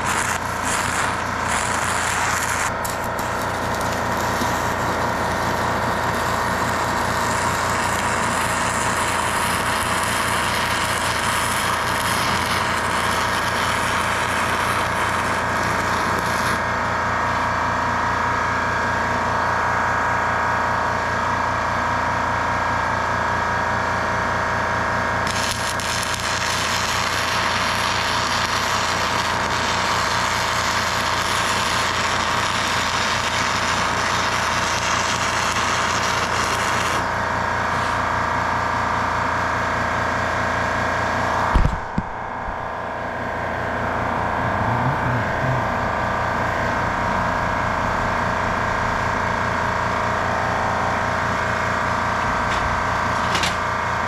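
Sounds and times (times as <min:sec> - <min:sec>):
metalworking machine noise: 0:00.0 - 0:19.0, 0:24.7 - 0:54.0
machine whine: 0:00.0 - 0:54.0.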